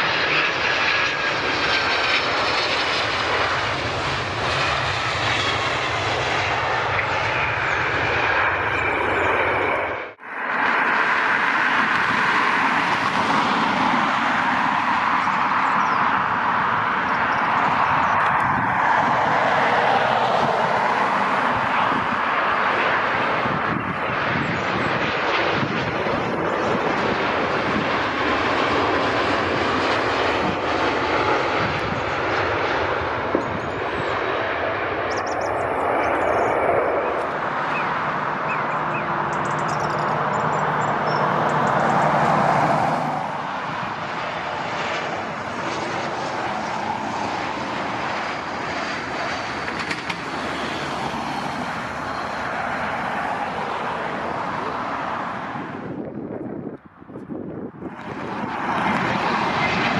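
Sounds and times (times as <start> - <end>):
jet engines rushing: 0.0 - 59.9
jet landing: 0.0 - 59.9.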